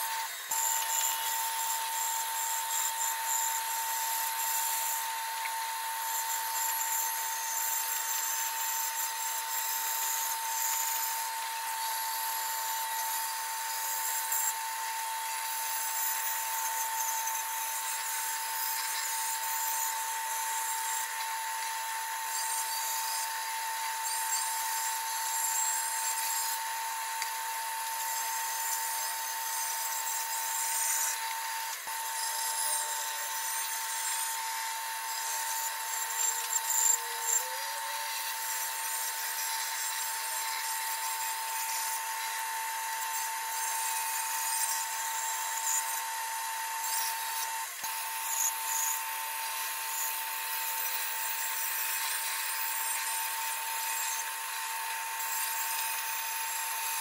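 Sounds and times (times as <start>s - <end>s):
power tool cutting wood: 0.0s - 57.0s.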